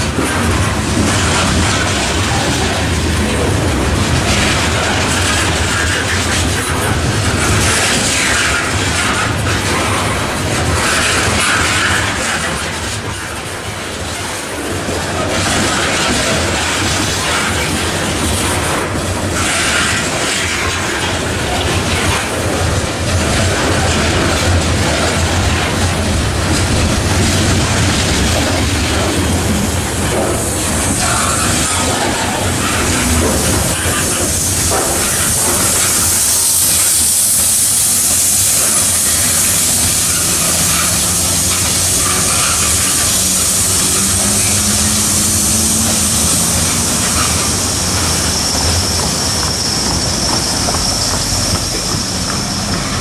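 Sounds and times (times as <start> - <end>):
steel train wheels on rails: 0.0 - 53.0.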